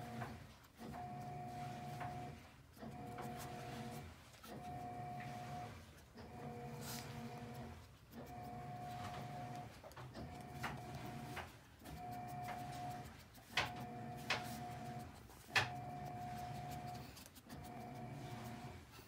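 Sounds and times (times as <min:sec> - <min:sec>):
dog sniffing and snuffling: 0:00.1 - 0:19.0.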